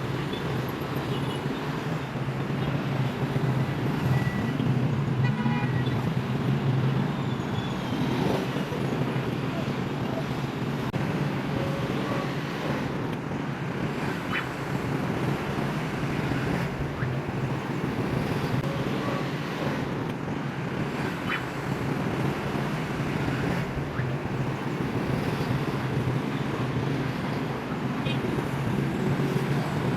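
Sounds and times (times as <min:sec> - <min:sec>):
city traffic rumble: 0:00.0 - 0:29.9.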